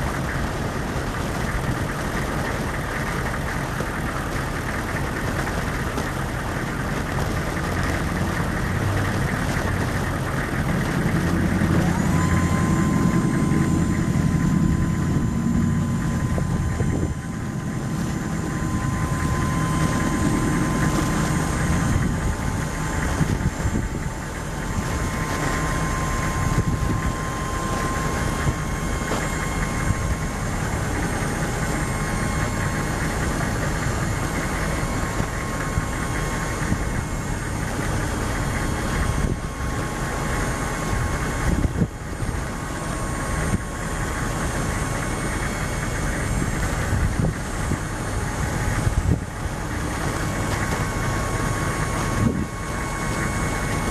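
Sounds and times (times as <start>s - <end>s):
diesel engine idling: 0.0s - 53.9s
thin steady whine: 0.0s - 53.9s.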